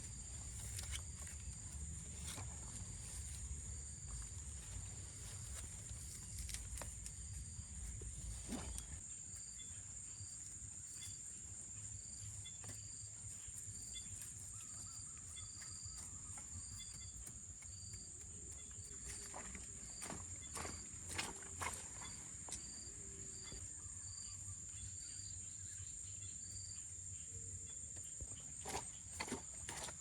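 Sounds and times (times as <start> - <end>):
insects buzzing and chirping: 0.0 - 30.0.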